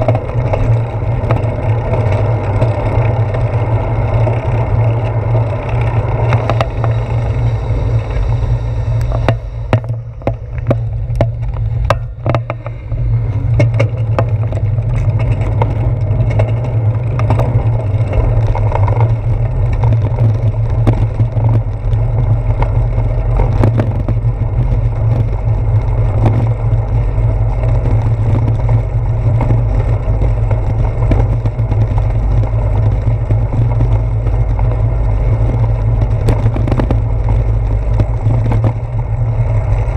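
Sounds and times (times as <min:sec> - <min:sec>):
bicycle rolling: 0:00.0 - 0:39.9
sharp clicks and rattles: 0:00.0 - 0:39.9
tyres over brick pavers: 0:00.0 - 0:39.9
wind on microphone: 0:00.0 - 0:39.9.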